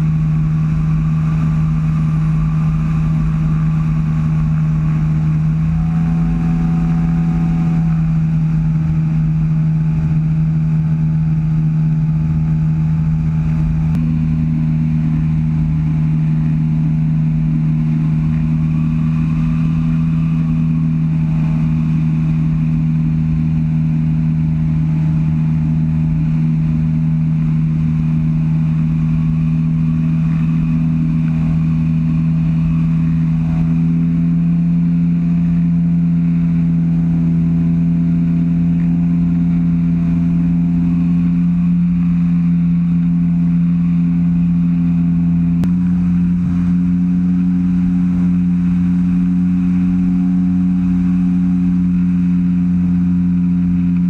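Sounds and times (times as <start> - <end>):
aircraft engine drone: 0.0 - 54.0.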